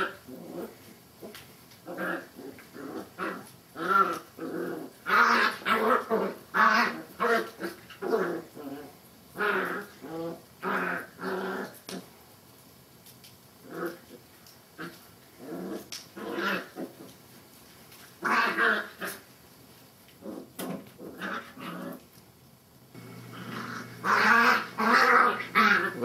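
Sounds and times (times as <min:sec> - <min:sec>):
puppies play-growling: 0:00.0 - 0:12.1, 0:13.6 - 0:19.4, 0:20.1 - 0:22.2, 0:23.0 - 0:26.0.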